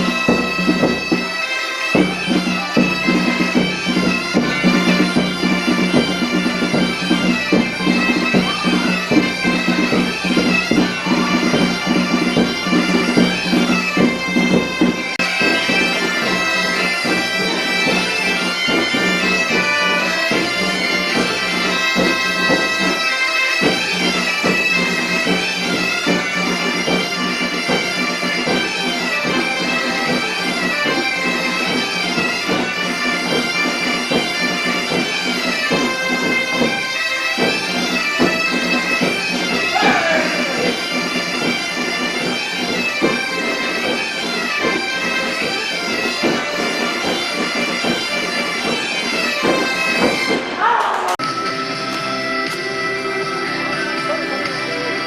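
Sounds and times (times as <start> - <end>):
bagpipes playing a tune: 0.0 - 50.6, 51.2 - 55.0
drum strokes: 0.0 - 51.2.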